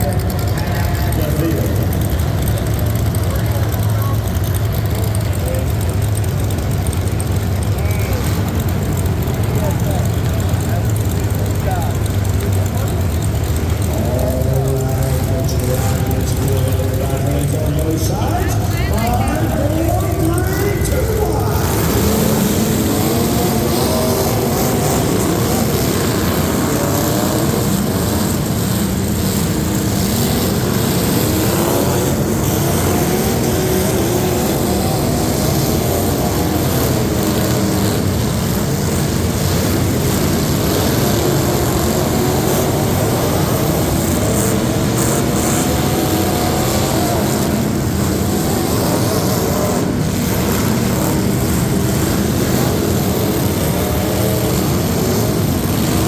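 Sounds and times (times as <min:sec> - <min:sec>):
truck engines revving loudly: 0:00.0 - 0:56.0.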